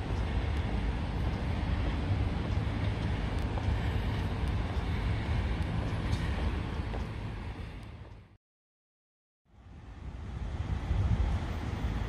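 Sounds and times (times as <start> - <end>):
city traffic rumble: 0.0 - 8.4, 9.5 - 12.0.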